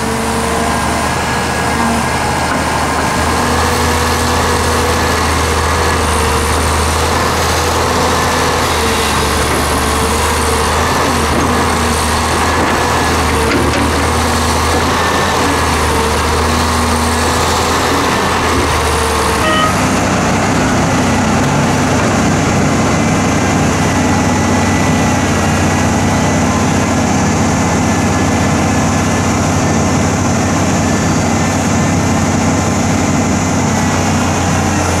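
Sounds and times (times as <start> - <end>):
dump truck engine drone: 0.0 - 35.0
excavator diesel engine working: 0.0 - 35.0.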